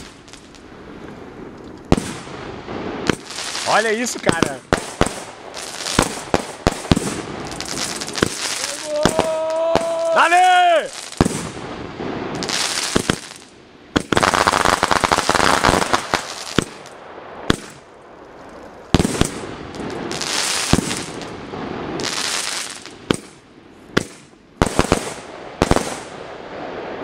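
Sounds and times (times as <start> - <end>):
fireworks hissing: 0.0 - 26.2
fireworks bangs: 0.0 - 27.0
fireworks crackling: 0.0 - 27.0.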